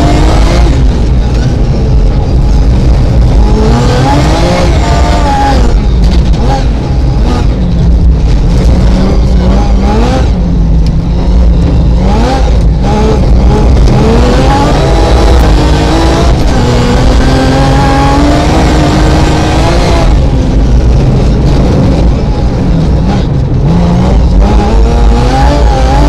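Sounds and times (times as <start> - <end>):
heavy road noise: 0.0 - 26.0
rally car engine revving: 0.0 - 26.0.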